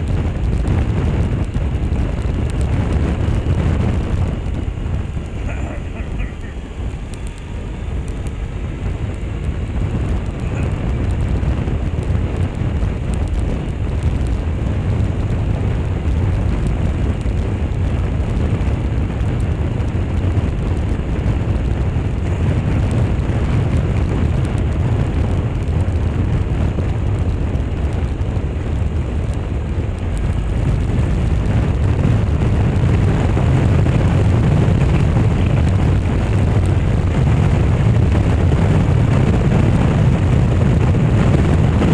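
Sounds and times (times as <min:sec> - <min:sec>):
motorcycle engine and tyre rumble: 0:00.0 - 0:41.9
wind buffeting microphone: 0:00.0 - 0:41.9.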